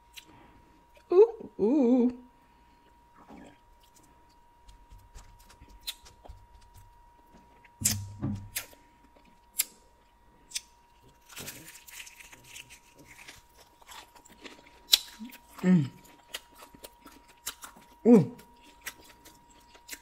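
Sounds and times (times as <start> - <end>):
crackly biting and chewing: 3.3 - 20.0.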